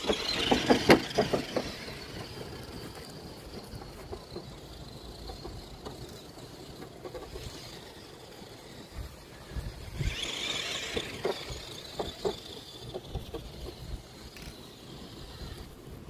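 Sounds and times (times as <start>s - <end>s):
rc truck driving over rough ground: 0.0s - 16.0s.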